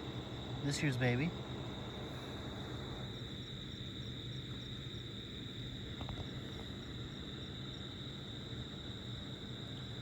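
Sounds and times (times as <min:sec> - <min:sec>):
crickets trilling: 0:00.0 - 0:10.0
faint insect chirp: 0:00.0 - 0:10.0
steady low hum: 0:00.0 - 0:10.0.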